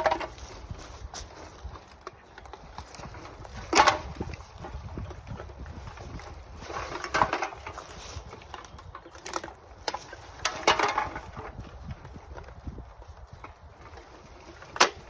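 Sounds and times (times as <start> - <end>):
drink cans crackling and clinking: 0.0 - 12.6, 13.2 - 15.0
plastic bag rustling: 0.0 - 15.0.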